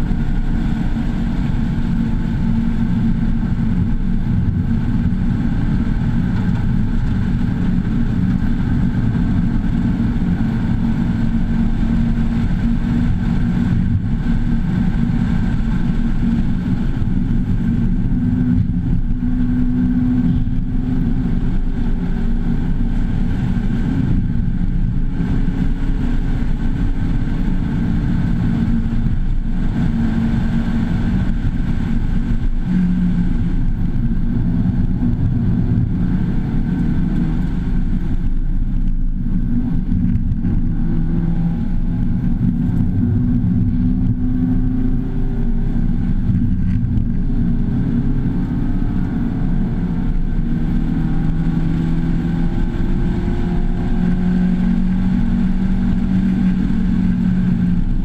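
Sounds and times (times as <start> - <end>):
car engine pulling hard: 0.0 - 58.0
road noise: 0.0 - 58.0.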